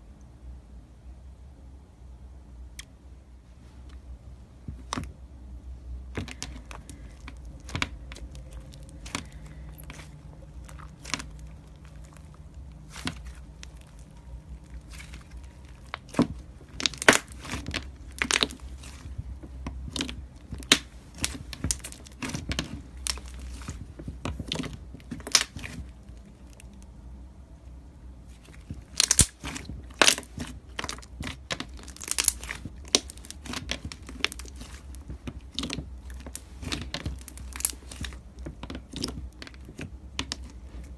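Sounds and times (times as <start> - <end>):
crunchy slime crackling and popping: 6.0 - 27.0, 28.2 - 40.9.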